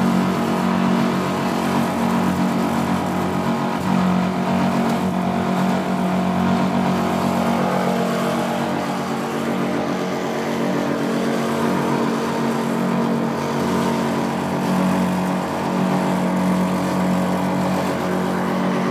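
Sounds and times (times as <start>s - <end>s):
tumble dryer droning hum: 0.0s - 18.9s.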